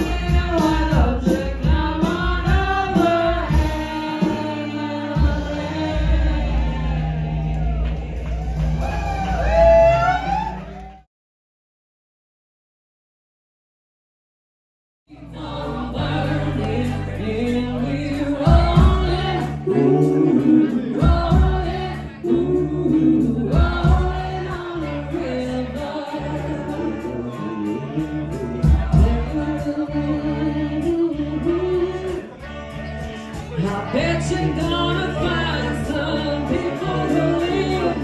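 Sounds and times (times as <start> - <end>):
sustained bass notes: 0.0 - 11.0, 15.1 - 38.0.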